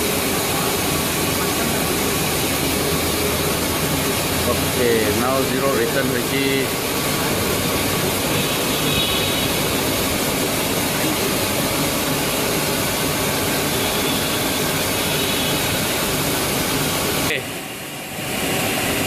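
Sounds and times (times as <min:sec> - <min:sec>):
lathe mechanical rushing: 0:00.0 - 0:19.0.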